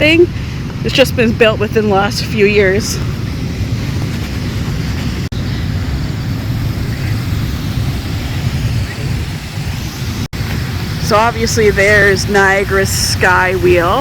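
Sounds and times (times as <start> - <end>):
low rumble of street noise: 0.0 - 14.0.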